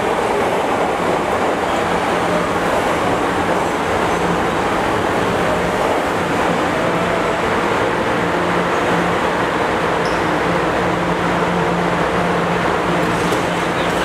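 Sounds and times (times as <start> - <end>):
subway train rumble and hum: 0.0 - 14.0.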